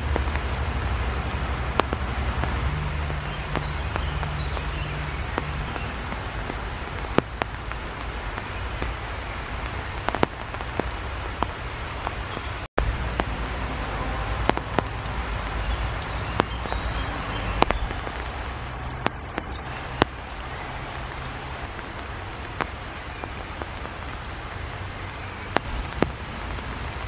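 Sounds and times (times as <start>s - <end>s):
raindrops ticking on surfaces: 0.0s - 27.0s
steady rain: 0.0s - 27.0s.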